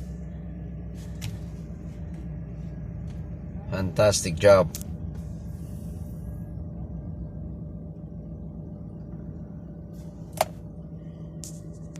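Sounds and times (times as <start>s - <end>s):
truck engine idling: 0.0s - 11.9s.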